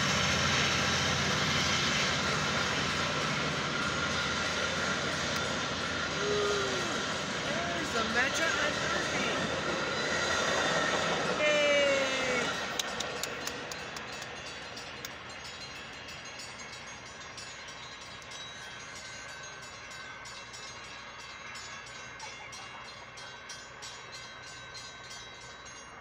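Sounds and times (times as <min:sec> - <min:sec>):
crossing warning bell ringing: 0:00.0 - 0:26.0
train rumble: 0:00.0 - 0:26.0.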